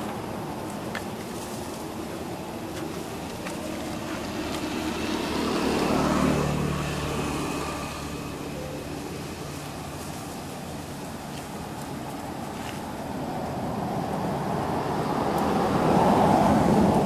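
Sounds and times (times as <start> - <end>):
low engine hum: 0.0 - 17.0
vehicle passing by: 1.2 - 17.0.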